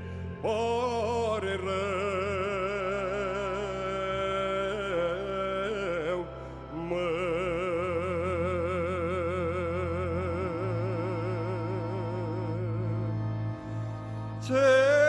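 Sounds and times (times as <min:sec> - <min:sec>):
sustained backing with bass: 0:00.0 - 0:15.0.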